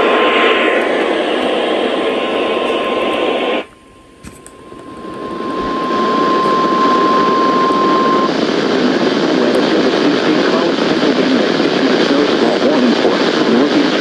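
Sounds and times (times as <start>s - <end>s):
steady warning alarm tone: 0.0s - 12.1s
radio static: 0.0s - 14.0s.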